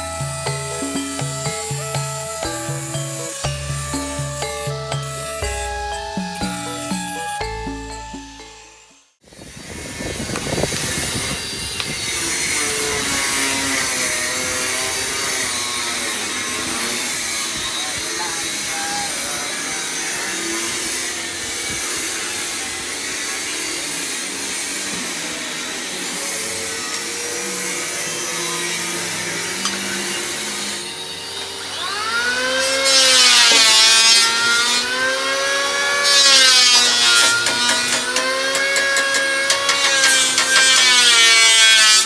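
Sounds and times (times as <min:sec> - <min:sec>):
power tool motor whine: 0:00.0 - 0:42.0.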